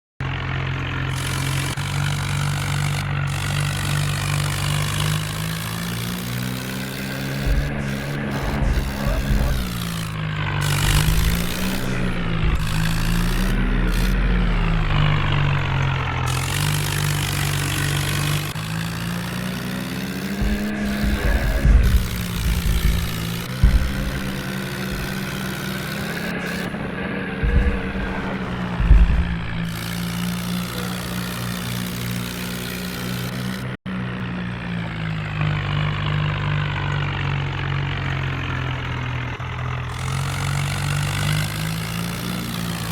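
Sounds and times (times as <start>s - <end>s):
tractor diesel engine running: 0.2s - 42.9s.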